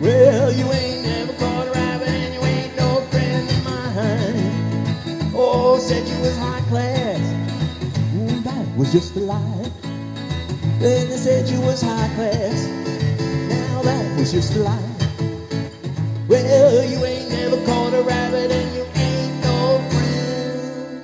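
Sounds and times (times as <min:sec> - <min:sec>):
live rock and roll music: 0:00.0 - 0:21.0.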